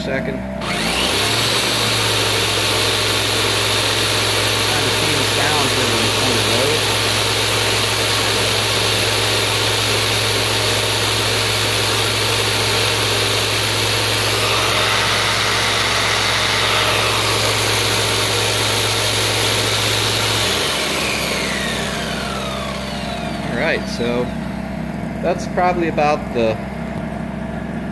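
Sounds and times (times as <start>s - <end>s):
portable generator running: 0.0s - 27.9s
jigsaw motor whine: 0.4s - 27.9s.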